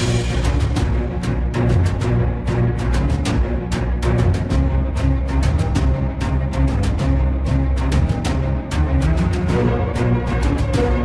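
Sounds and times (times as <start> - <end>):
dramatic background music: 0.0 - 11.0.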